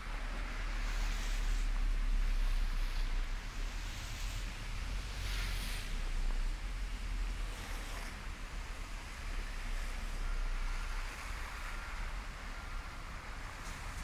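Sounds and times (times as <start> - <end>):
steady rushing hiss: 0.0 - 14.0.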